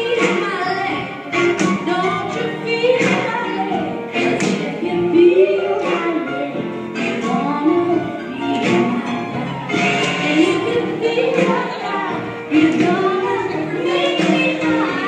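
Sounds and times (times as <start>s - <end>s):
blues music with singer: 0.0s - 15.0s.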